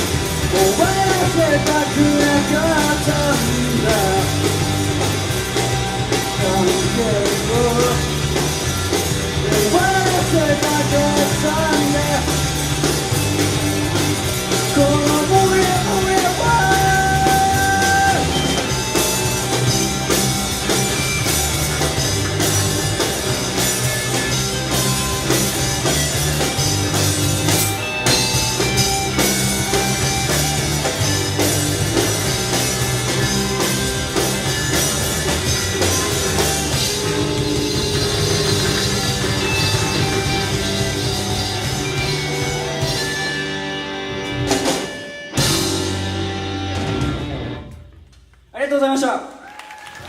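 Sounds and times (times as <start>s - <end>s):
rock band playing: 0.0s - 48.3s.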